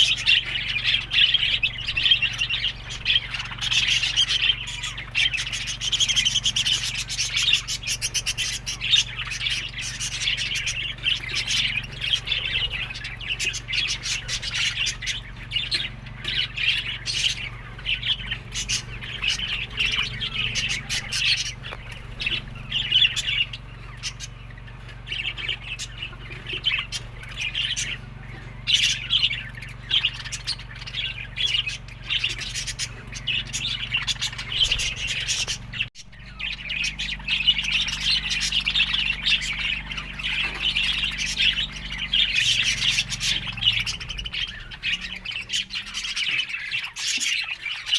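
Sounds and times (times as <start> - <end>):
budgerigars chirping and squawking: 0.0 - 47.9
low steady hum: 0.0 - 47.9.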